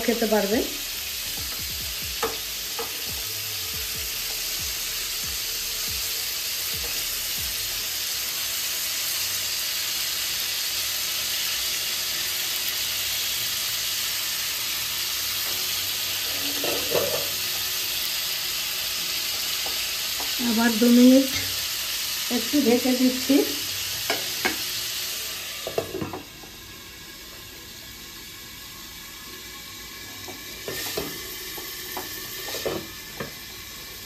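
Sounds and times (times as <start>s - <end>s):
vegetables sizzling in oil: 0.0s - 34.0s.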